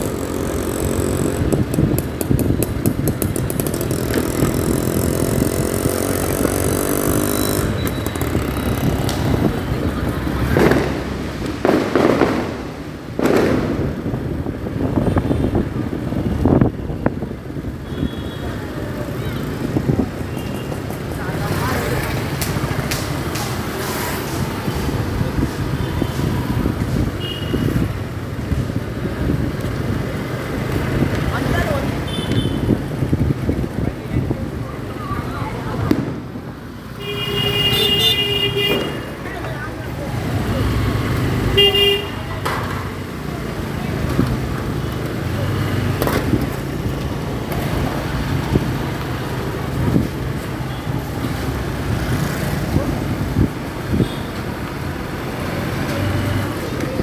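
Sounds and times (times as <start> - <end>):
road and traffic noise: 0.0 - 57.0.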